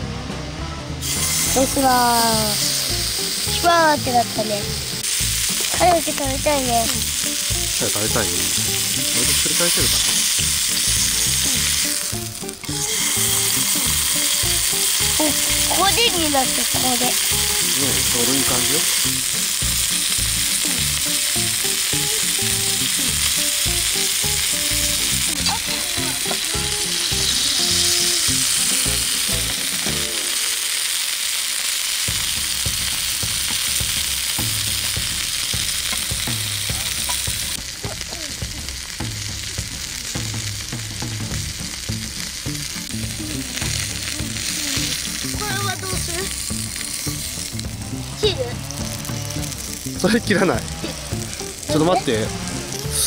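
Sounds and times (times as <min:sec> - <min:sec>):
bacon sizzling in a skillet: 0:01.0 - 0:53.0.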